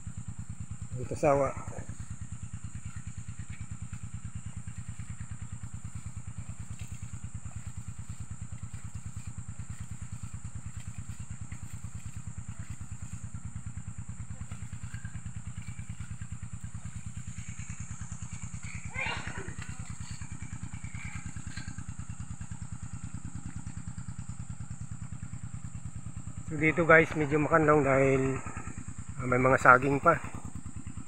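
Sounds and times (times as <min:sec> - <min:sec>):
water pump engine chugging: 0:00.0 - 0:31.0.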